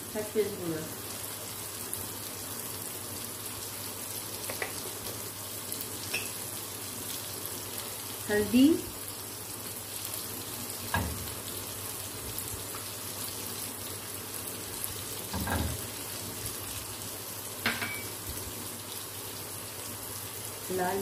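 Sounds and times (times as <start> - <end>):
oil sizzling in a wok: 0.0 - 21.0.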